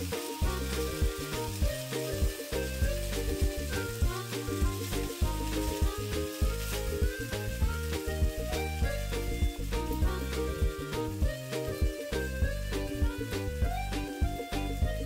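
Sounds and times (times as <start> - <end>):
background music with steady beat: 0.0 - 15.0
bread sizzling in a frying pan: 0.0 - 15.0.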